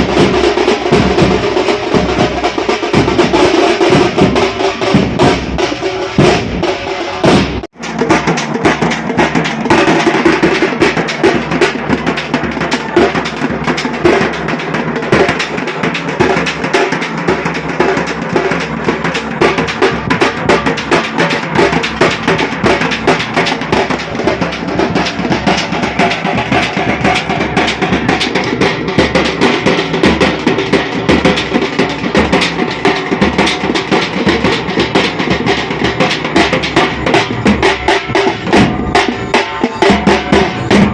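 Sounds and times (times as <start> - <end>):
drums beaten fast: 0.0 - 40.9.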